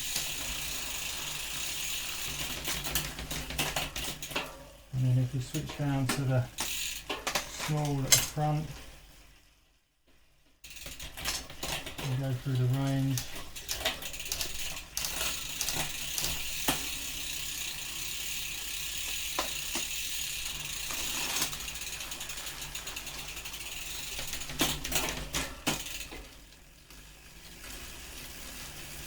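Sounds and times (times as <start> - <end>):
bike chain turning over cassette: 0.0 - 9.0, 10.6 - 29.0.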